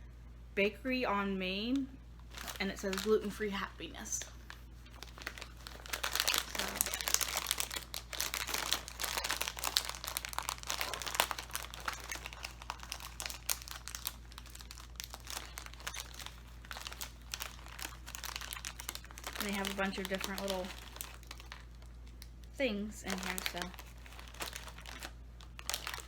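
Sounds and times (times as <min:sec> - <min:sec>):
plastic wrapper crinkling: 0:02.2 - 0:26.0.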